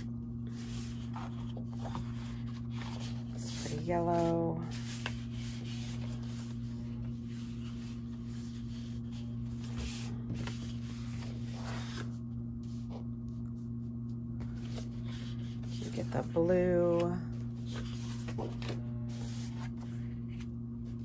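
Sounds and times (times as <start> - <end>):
cardstock sheets rustling: 0.0 - 13.0, 14.4 - 21.0
steady low hum: 0.0 - 21.0.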